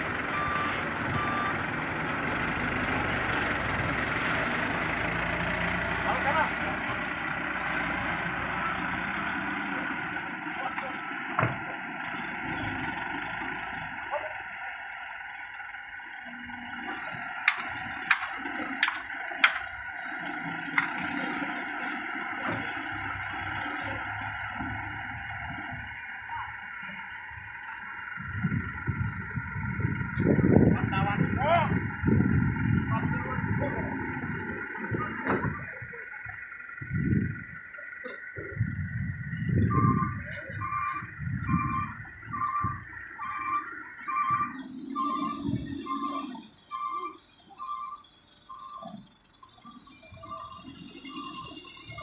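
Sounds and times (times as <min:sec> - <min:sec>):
diesel truck engines running: 0:00.0 - 0:52.0
reversing alarm beeping: 0:00.1 - 0:11.2, 0:13.6 - 0:52.0.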